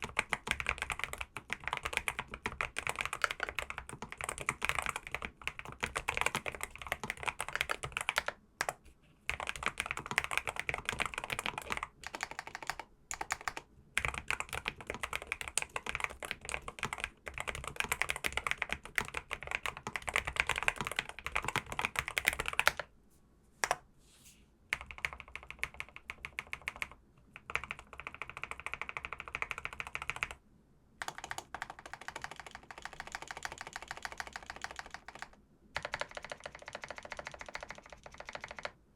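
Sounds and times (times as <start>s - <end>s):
mechanical keyboard typing: 0.0s - 22.9s, 24.7s - 30.4s, 31.0s - 38.8s.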